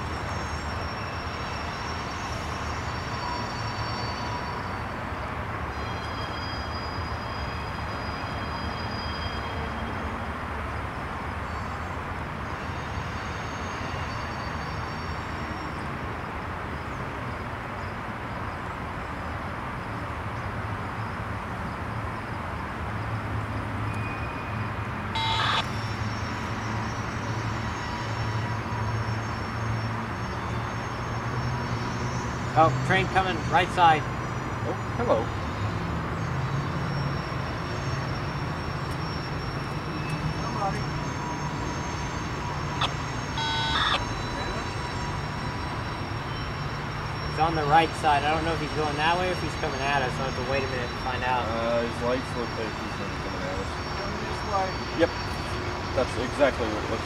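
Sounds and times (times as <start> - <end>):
high wheel squealing: 0.0 - 10.3, 11.4 - 16.0, 23.8 - 57.0.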